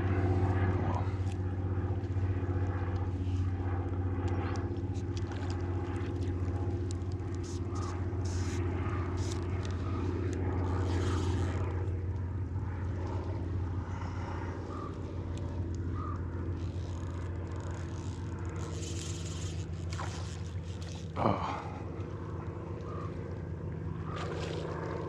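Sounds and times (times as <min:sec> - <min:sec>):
motor engine droning: 0:00.0 - 0:25.0.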